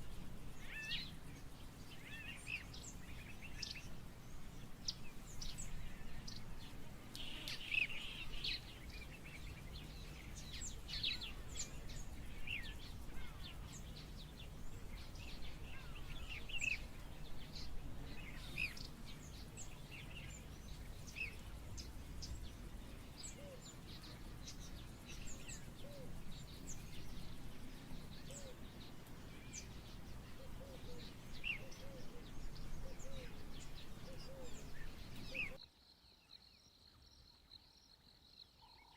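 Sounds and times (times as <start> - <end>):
birds chirping: 0.0 - 35.6.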